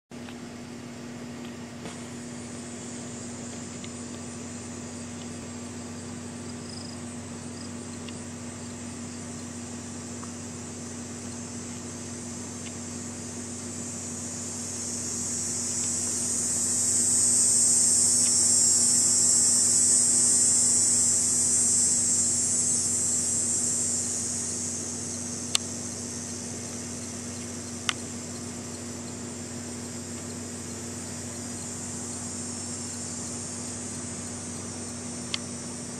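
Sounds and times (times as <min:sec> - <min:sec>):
steady low hum: 0:00.1 - 0:35.9
high-pitched insect drone: 0:02.0 - 0:35.9.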